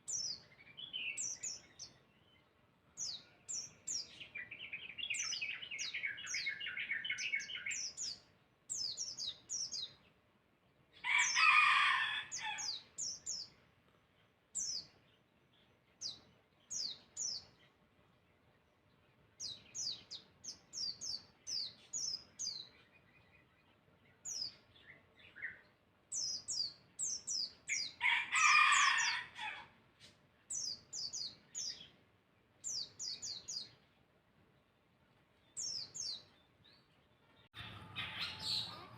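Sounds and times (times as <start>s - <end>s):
songbird chirping: 0.0s - 38.9s.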